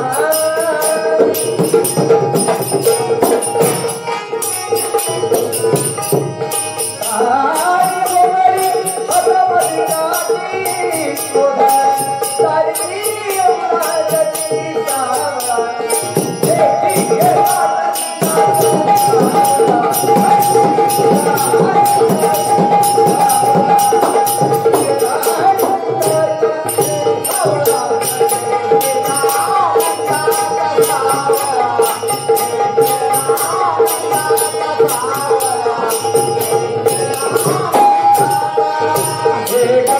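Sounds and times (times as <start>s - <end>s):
jingling hand percussion: 0.0s - 39.9s
person singing: 0.0s - 39.9s.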